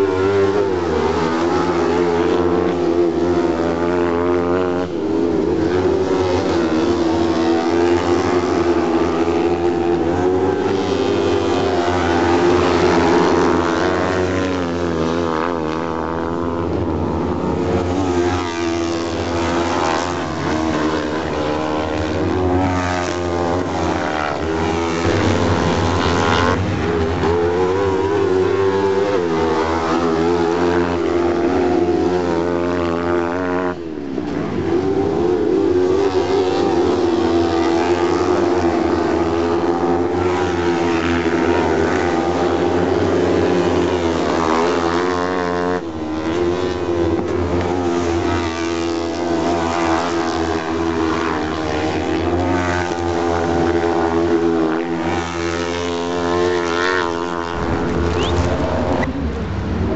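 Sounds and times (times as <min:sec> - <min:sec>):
racing buggy engines: 0:00.0 - 0:59.9.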